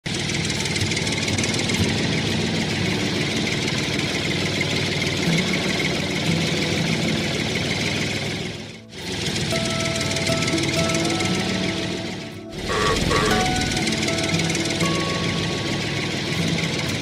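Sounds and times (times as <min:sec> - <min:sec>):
tractor engine running: 0:00.1 - 0:17.0.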